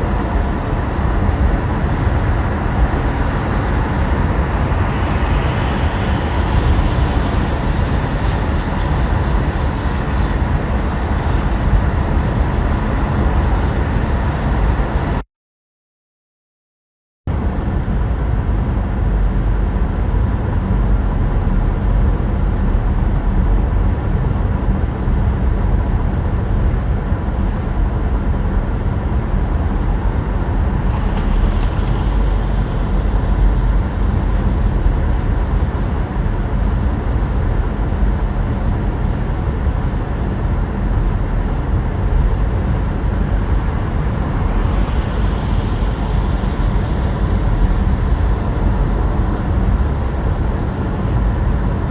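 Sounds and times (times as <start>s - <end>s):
tyre and wind rumble: 0.0s - 15.2s, 17.3s - 51.9s.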